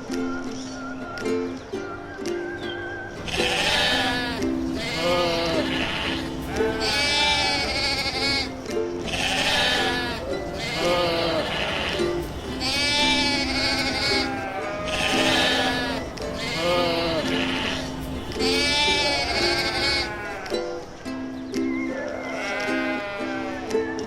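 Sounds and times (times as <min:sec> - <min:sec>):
ukulele music: 0:00.0 - 0:24.0
quavering bleats: 0:03.2 - 0:20.7, 0:21.9 - 0:23.8.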